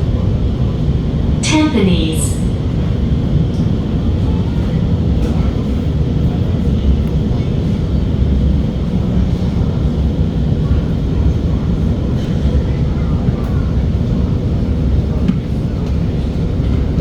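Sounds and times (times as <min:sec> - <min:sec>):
metro train carriage rumble: 0:00.0 - 0:17.0.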